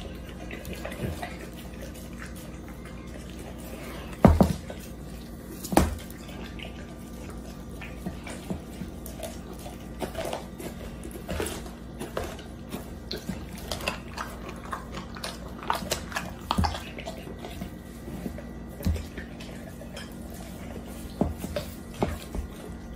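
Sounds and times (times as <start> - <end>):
dog chewing and tearing: 0.0 - 22.9.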